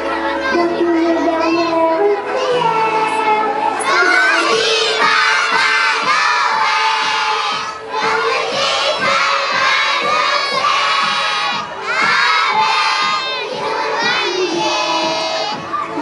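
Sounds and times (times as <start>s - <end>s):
children shouting and chanting: 0.0s - 16.0s.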